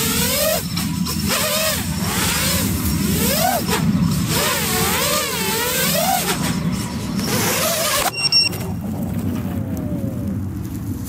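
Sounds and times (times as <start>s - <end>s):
drone motors whirring: 0.0s - 11.0s.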